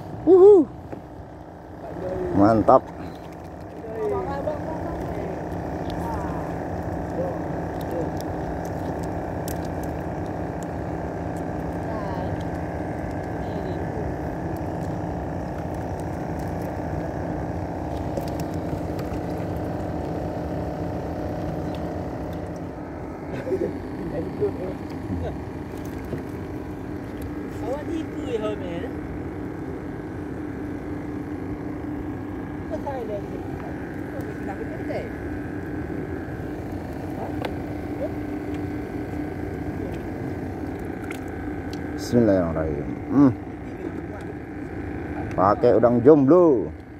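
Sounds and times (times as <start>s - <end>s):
motor engine humming: 0.0s - 46.9s
water noise: 0.0s - 46.9s
wind: 0.0s - 46.9s.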